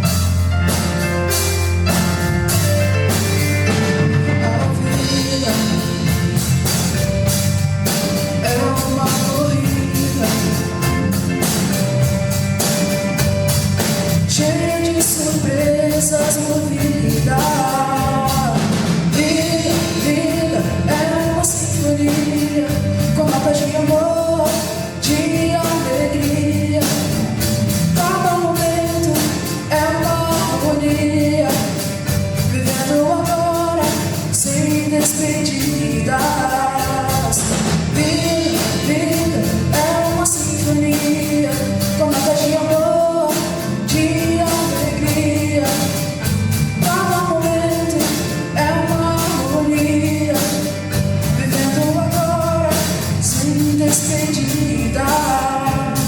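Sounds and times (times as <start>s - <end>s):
live band playing: 0.0s - 56.0s
woman singing lead vocal: 4.3s - 6.8s, 8.4s - 11.2s, 14.3s - 56.0s.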